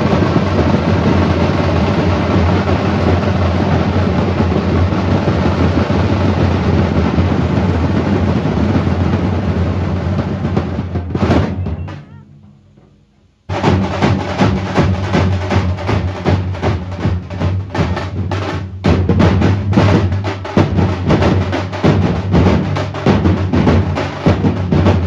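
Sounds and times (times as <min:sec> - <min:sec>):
live band drumming: 0:00.0 - 0:12.2, 0:13.5 - 0:25.0.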